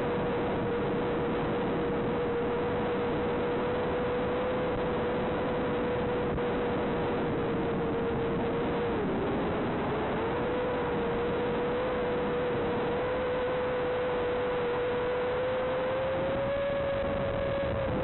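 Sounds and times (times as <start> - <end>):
drone motors humming: 0.0 - 18.0.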